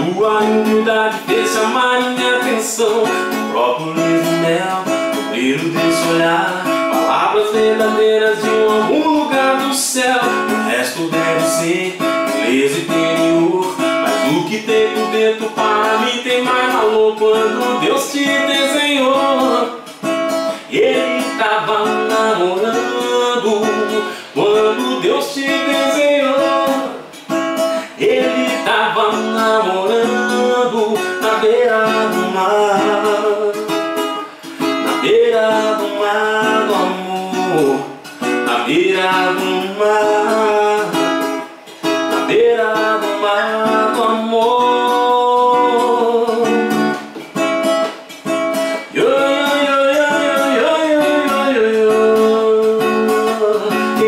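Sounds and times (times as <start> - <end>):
classical guitar strumming: 0.0 - 54.0
man singing: 0.0 - 54.0.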